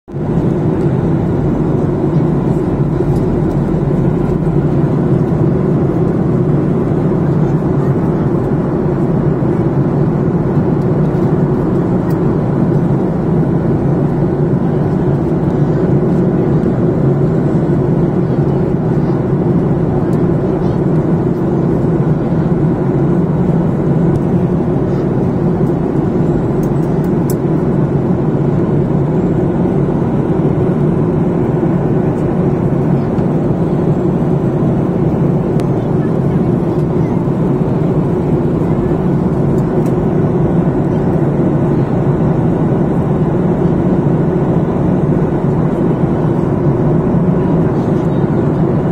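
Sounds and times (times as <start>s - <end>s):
low engine drone: 0.1s - 48.9s.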